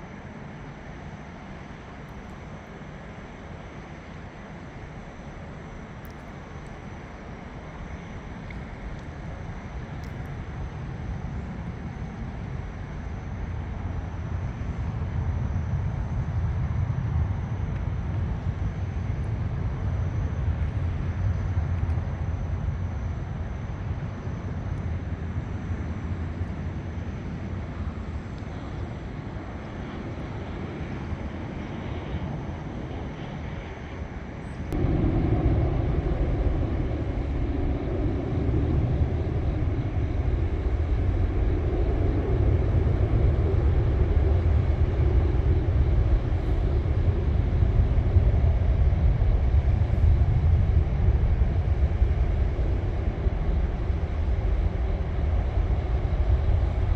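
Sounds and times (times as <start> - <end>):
airplane passing overhead: 0.0 - 56.9.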